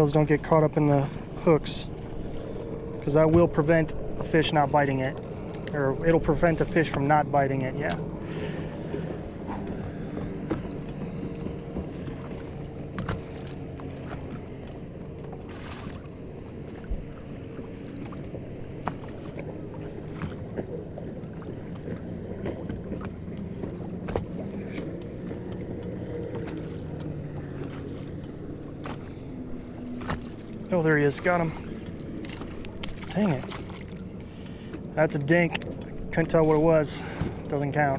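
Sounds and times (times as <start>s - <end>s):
light knocks against boat: 3.2s - 5.8s, 6.4s - 8.1s, 8.8s - 37.5s.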